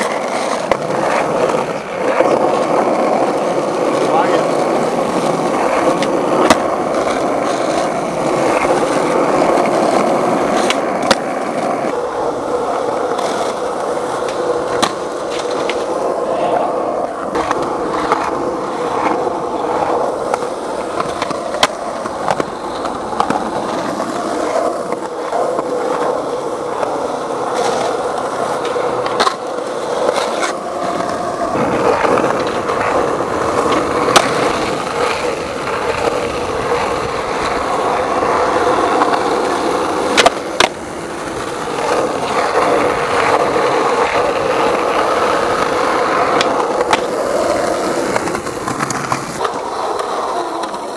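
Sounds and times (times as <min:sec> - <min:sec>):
skateboard clacking on ground: 0:00.0 - 0:50.9
skateboard wheels rumbling: 0:00.0 - 0:50.9.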